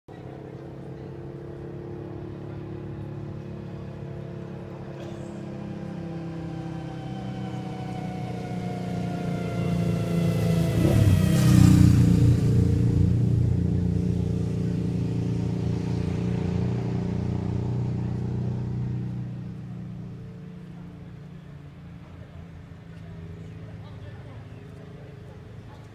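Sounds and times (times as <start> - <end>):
motor vehicle passing by: 0.1 - 25.9.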